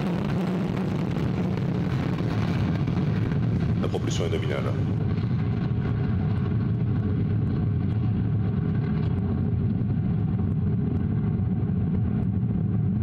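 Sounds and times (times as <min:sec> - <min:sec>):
rocket motor deep rumble: 0:00.0 - 0:13.0.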